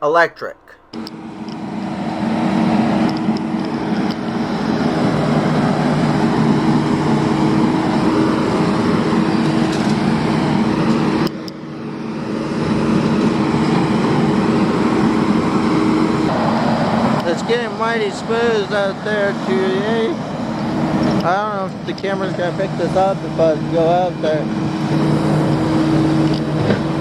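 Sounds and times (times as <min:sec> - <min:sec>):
heavy machine engine running: 0:01.0 - 0:27.0.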